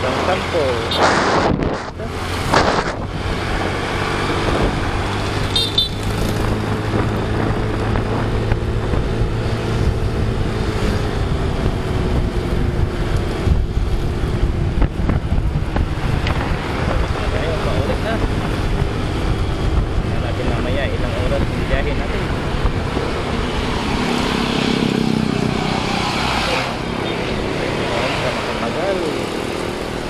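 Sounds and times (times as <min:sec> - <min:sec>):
road noise: 0:00.0 - 0:30.0
wind buffeting microphone: 0:01.0 - 0:05.4, 0:06.0 - 0:27.6.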